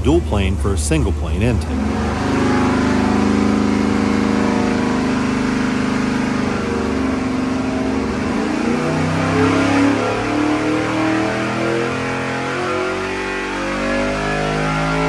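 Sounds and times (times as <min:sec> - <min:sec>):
engine running loud under load: 0:00.0 - 0:15.0.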